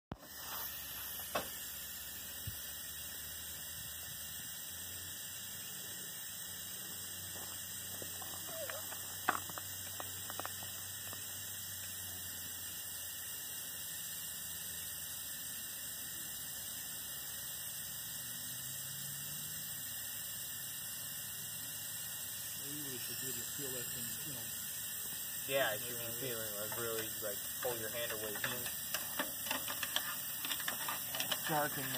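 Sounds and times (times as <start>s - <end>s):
steam blower hissing: 0.1s - 31.9s.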